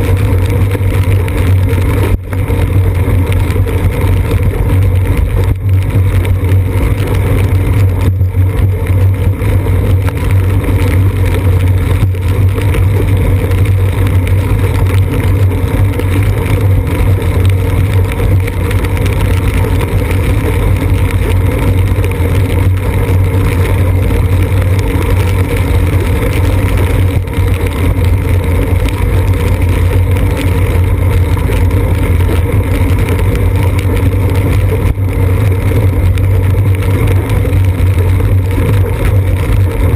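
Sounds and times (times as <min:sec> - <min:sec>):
road vibration: 0:00.0 - 0:39.9
tyre noise on wet road: 0:00.0 - 0:39.9
wind on camera: 0:00.0 - 0:39.9.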